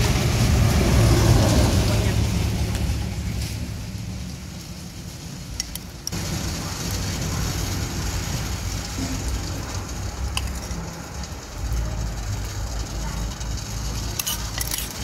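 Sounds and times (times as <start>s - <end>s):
pot boiling with hiss: 0.0s - 15.0s.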